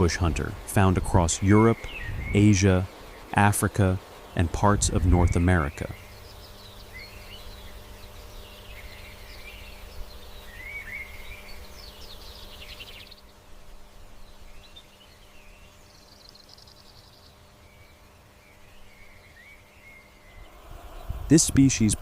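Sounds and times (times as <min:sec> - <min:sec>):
birds chirping and warbling: 0:00.0 - 0:22.0
low steady outdoor background: 0:00.0 - 0:22.0.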